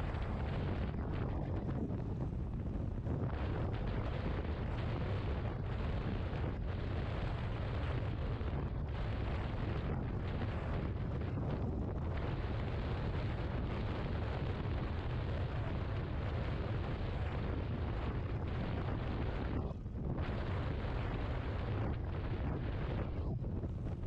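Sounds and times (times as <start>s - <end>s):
wind rumble buffeting microphone: 0.0s - 24.0s.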